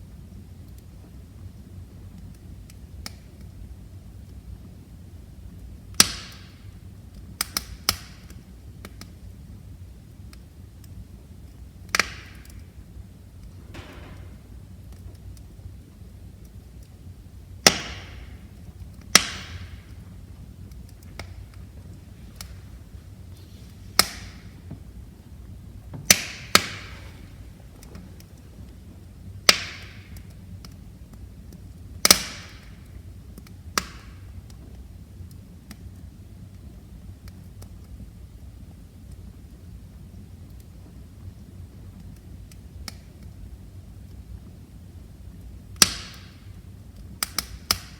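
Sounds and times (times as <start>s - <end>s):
fire popping with hiss: 0.0s - 47.9s
low rumble of flames: 0.0s - 47.9s
wood fire crackling: 0.0s - 47.9s.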